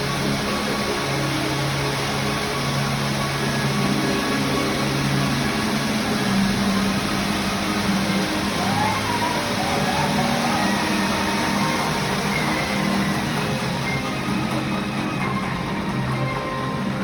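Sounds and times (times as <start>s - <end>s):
firework fountains hissing: 0.0s - 17.0s.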